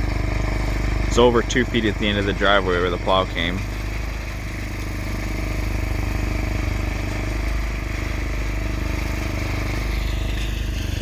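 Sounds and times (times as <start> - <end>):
snow-clearing machine engine running: 0.0 - 11.0.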